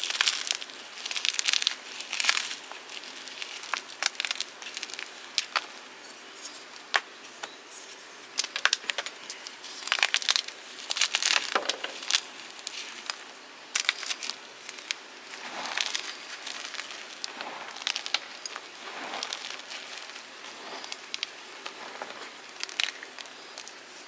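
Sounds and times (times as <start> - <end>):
chalk being crushed: 0.0 - 24.0.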